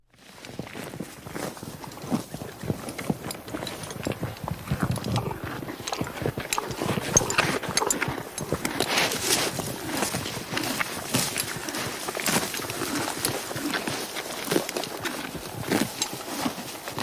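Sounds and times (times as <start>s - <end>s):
horse tearing and chewing grass: 0.1s - 17.0s.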